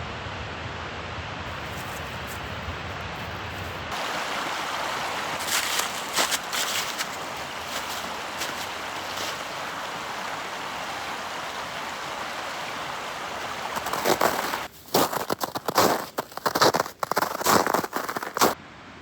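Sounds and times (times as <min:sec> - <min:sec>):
running water rushing: 0:03.3 - 0:18.6.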